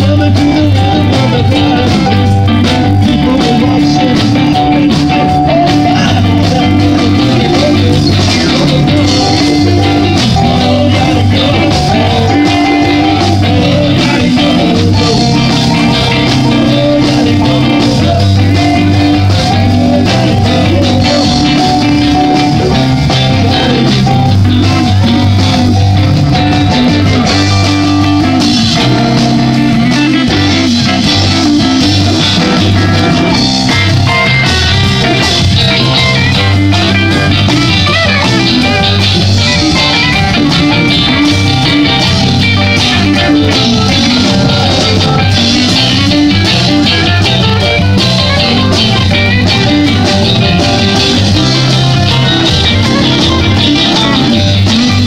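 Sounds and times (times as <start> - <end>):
electric guitars: 0.0 - 55.0
live band playing blues-rock: 0.0 - 55.0
steady bass line: 0.0 - 55.0.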